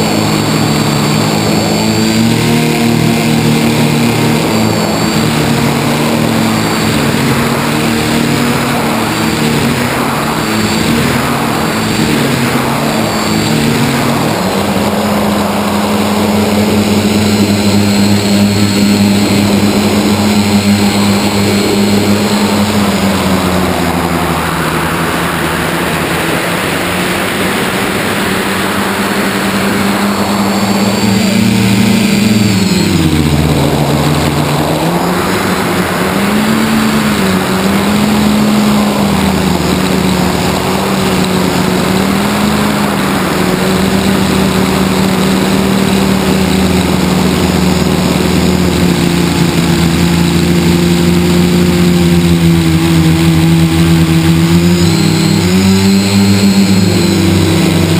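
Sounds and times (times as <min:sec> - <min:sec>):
model aircraft motors buzzing: 0:00.0 - 0:57.9
rushing air: 0:00.0 - 0:57.9.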